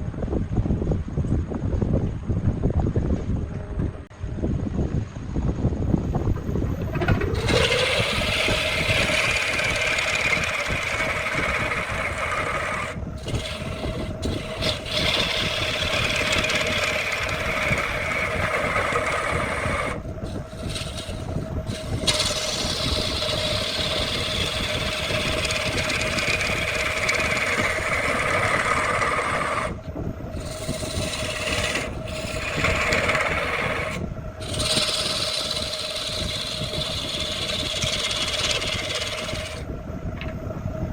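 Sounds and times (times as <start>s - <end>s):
tool scraping wood: 6.3s - 39.7s
power tool motor hum: 6.4s - 39.7s.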